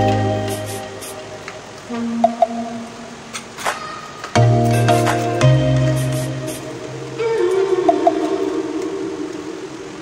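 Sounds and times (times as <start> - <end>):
background music: 0.0 - 3.4, 4.4 - 10.0.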